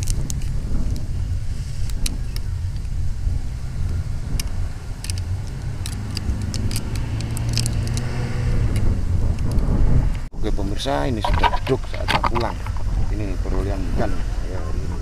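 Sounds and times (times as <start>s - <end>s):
low hum: 0.0s - 15.0s
wind on microphone: 0.0s - 15.0s.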